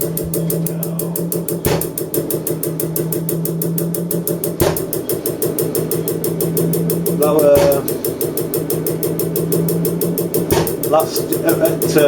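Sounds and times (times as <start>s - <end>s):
diesel engine clattering: 0.0s - 12.0s
sharp engine knocks: 0.0s - 12.0s.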